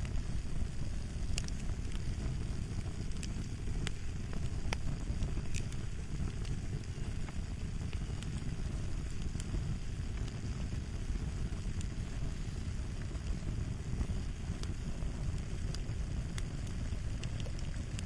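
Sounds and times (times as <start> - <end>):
fire popping and crackling: 0.0 - 18.0
low rumble of fire: 0.0 - 18.0.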